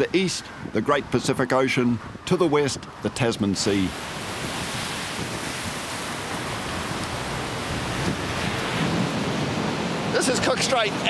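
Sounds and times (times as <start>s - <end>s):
big waves breaking: 0.0s - 11.0s
strong wind: 0.0s - 11.0s.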